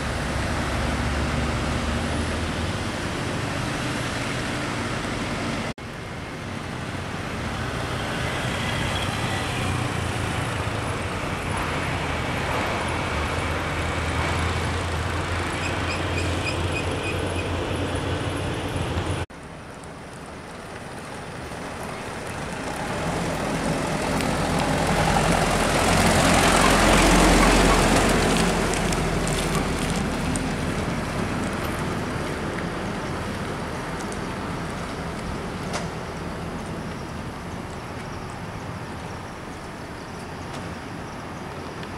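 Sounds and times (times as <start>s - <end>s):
road traffic hum: 0.0s - 41.9s.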